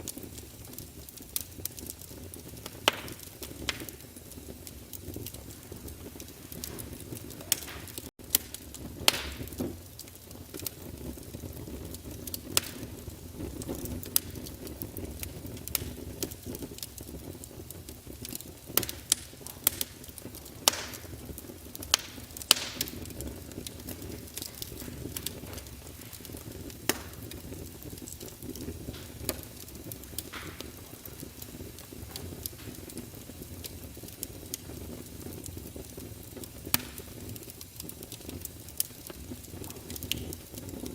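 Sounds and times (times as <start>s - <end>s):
logs crackling and popping: 0.0s - 40.9s
low rumble of flames: 0.0s - 40.9s.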